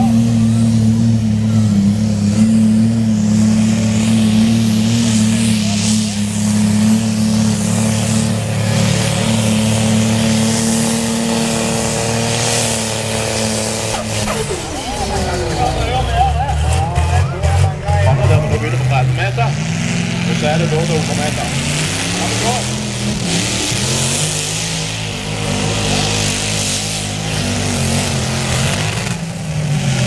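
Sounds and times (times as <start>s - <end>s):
tractor engine at high revs: 0.0s - 30.0s.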